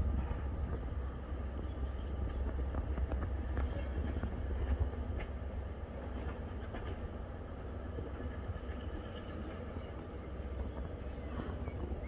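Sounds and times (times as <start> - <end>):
distant train rumbling: 0.0 - 12.0.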